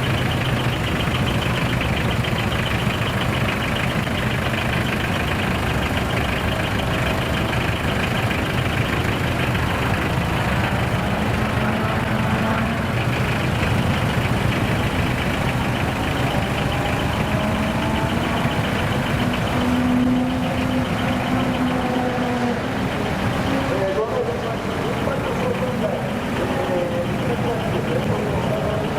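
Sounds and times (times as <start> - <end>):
diesel truck engines idling: 0.0 - 28.9.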